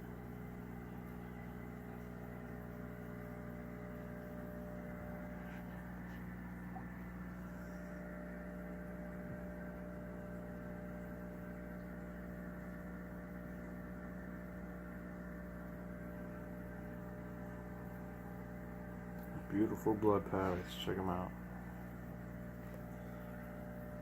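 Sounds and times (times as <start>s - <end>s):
aquarium filter humming: 0.0s - 24.0s.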